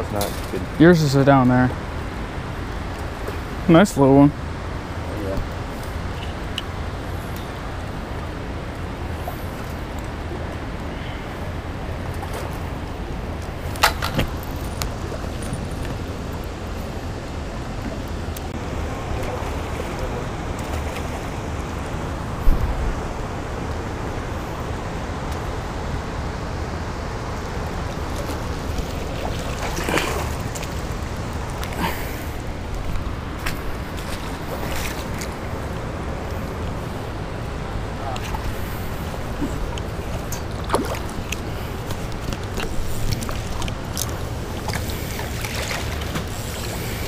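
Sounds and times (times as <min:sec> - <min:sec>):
river water rushing: 0:00.6 - 0:47.0.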